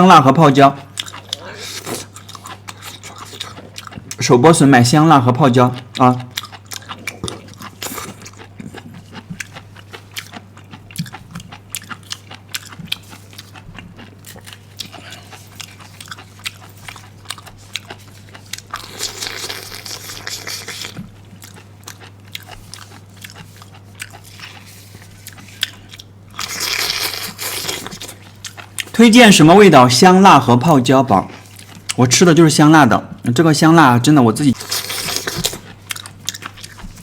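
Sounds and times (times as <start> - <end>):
crunchy biting and chewing: 0.8 - 4.5, 5.6 - 29.0, 34.5 - 37.0.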